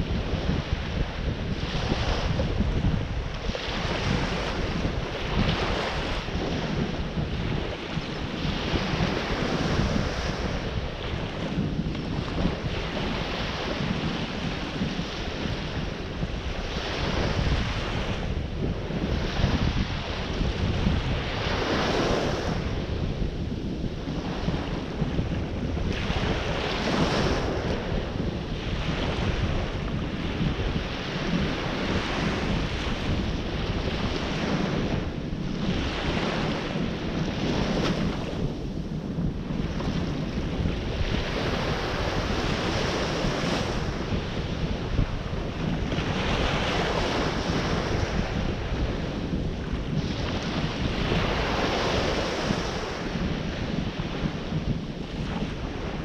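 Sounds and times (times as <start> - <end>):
surf breaking on shore: 0.0 - 56.0
wind buffeting microphone: 0.0 - 56.0.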